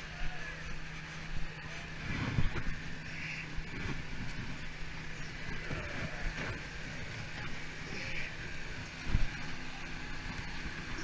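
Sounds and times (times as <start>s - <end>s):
wind-like rumble: 0.0s - 11.0s.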